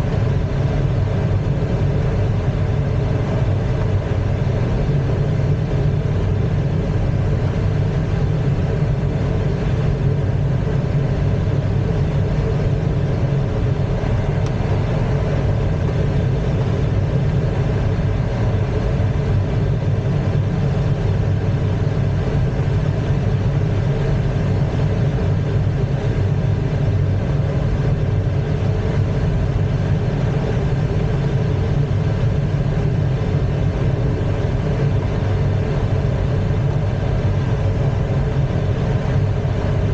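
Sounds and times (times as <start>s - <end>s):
cockpit rumble and rushing air: 0.0s - 39.9s.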